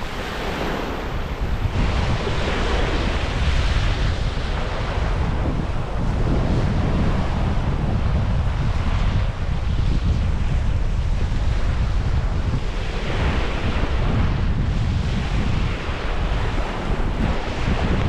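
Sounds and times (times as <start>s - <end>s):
waves washing onto beach: 0.0s - 18.0s
wind buffeting microphone: 0.0s - 18.0s.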